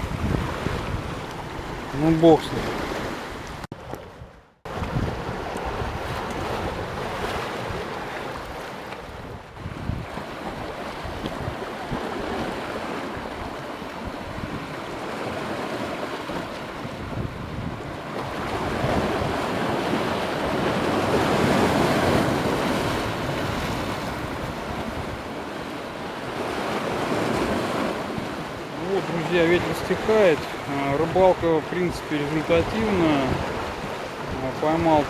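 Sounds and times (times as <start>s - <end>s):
choppy water lapping: 0.0s - 35.0s
wind blowing across microphone: 0.0s - 35.0s.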